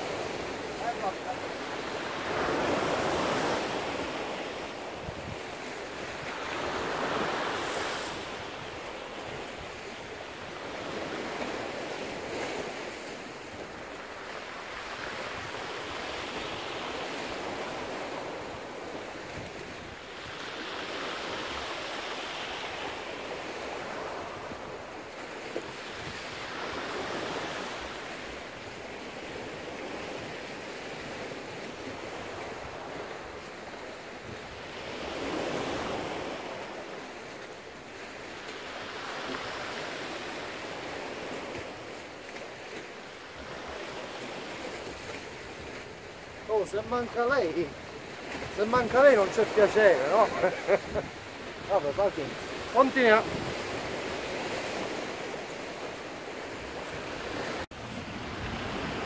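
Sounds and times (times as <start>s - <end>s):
waves breaking on rocks: 0.0s - 59.0s.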